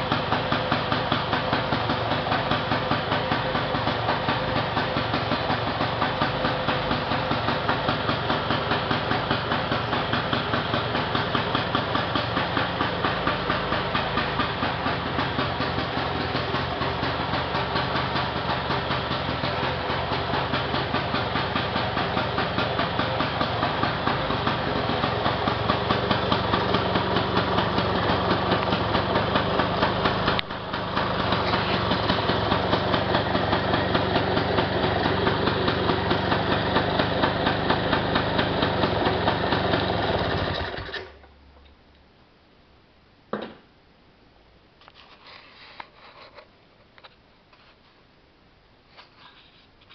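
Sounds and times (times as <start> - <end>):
two-stroke engine running: 0.0 - 41.2.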